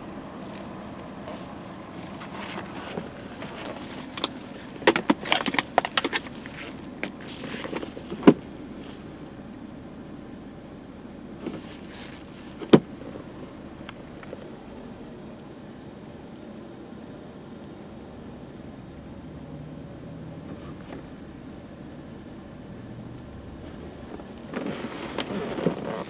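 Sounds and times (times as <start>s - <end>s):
engine droning: 0.0s - 26.0s.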